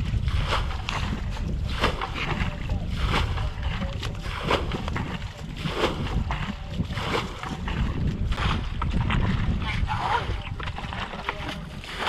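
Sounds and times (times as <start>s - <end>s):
water splashing: 0.0s - 12.0s
wind buffeting microphone: 0.0s - 12.0s.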